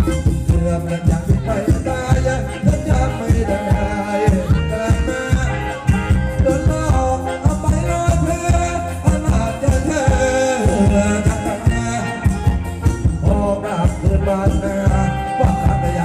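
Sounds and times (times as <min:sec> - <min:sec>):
band dance music: 0:00.0 - 0:16.0.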